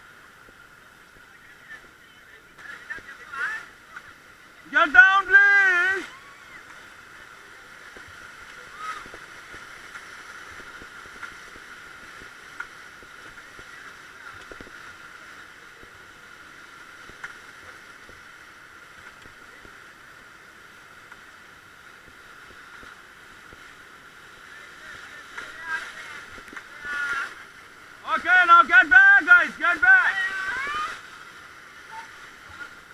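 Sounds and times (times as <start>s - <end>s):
river rapids rushing: 0.1s - 16.9s, 22.3s - 32.9s.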